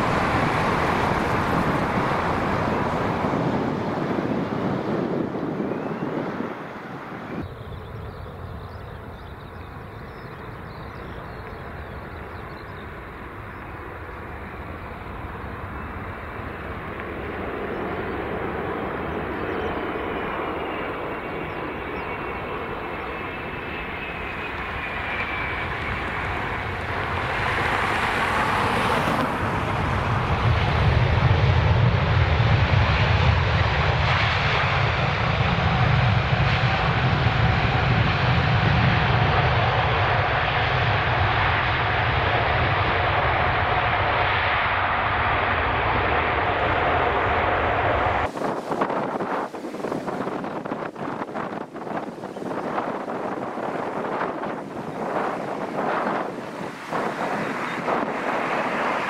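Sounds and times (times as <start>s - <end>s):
jet engine whine: 0.0s - 59.0s
jet engines rumbling: 0.0s - 59.0s
plane rolling on runway: 0.0s - 59.0s.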